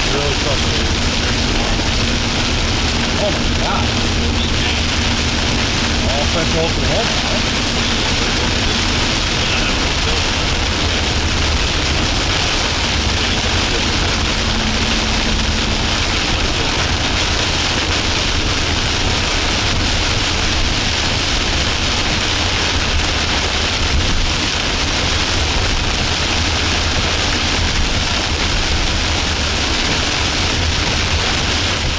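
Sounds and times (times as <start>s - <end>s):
car driving cabin noise: 0.0s - 31.8s.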